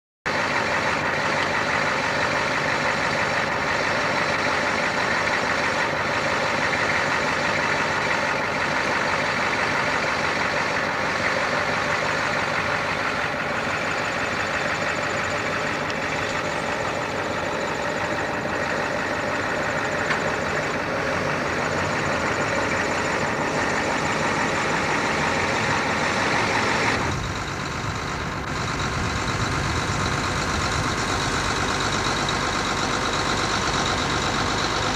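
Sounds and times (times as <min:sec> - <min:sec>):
vehicle engine and road noise: 0:00.3 - 0:34.9.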